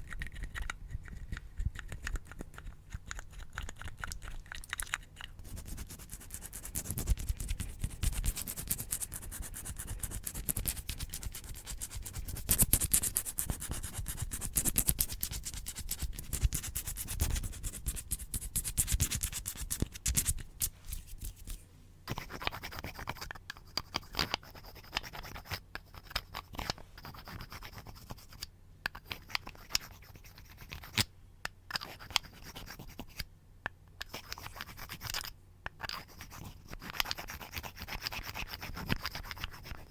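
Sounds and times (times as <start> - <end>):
scratching on a surface: 0.0 - 28.4, 34.0 - 39.9.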